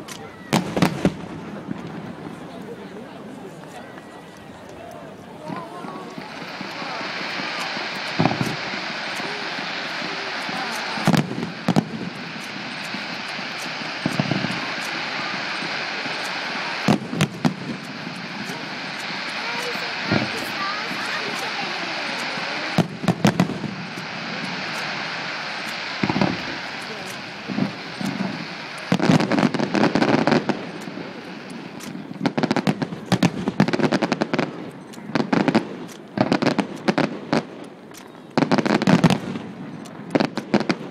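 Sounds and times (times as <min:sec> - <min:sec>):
distant firework bangs: 0:00.2 - 0:02.6, 0:05.4 - 0:40.9.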